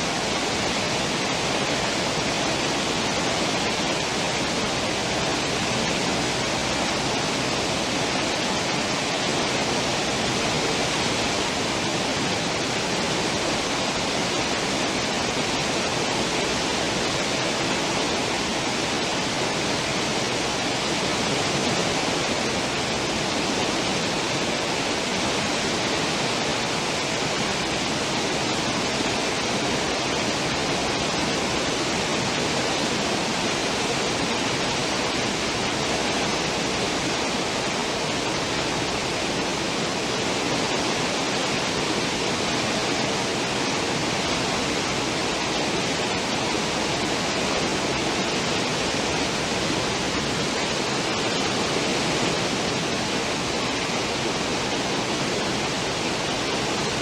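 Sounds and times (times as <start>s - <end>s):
ship wake water rushing: 0.0s - 57.0s.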